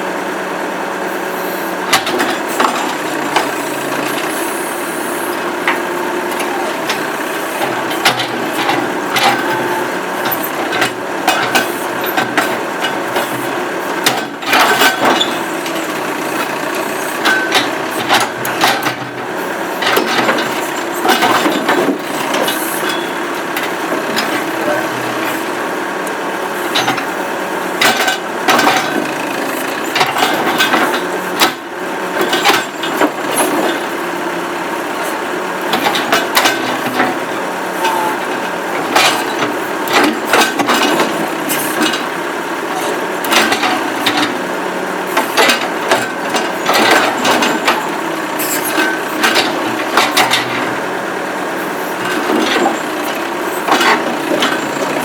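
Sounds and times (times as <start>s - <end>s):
tractor backhoe running: 0.0s - 55.0s.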